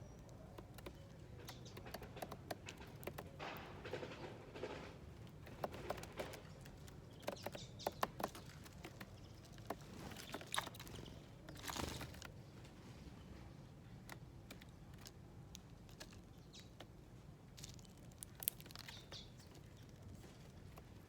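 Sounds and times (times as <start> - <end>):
beaks pecking at seeds: 0.0 - 12.8, 13.4 - 21.0.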